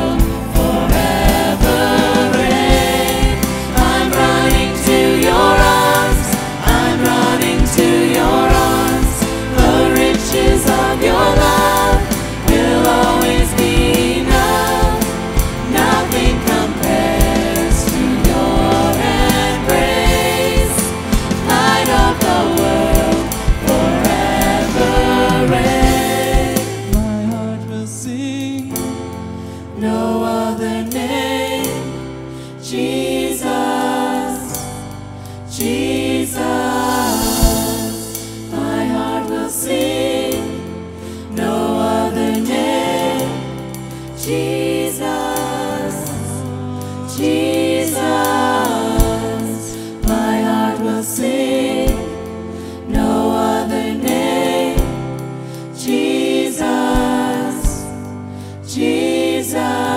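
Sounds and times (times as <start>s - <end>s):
drums: 0.0s - 59.9s
worship song with band: 0.0s - 59.9s.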